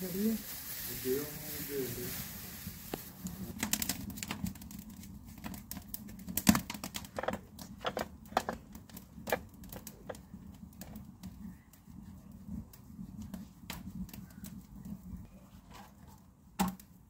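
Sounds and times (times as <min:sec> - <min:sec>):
straw fire crackling and popping: 0:00.0 - 0:15.3, 0:16.1 - 0:17.0.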